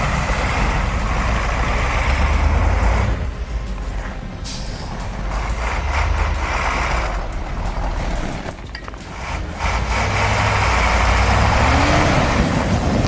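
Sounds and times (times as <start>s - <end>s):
heavy truck engine under load: 0.0s - 13.0s.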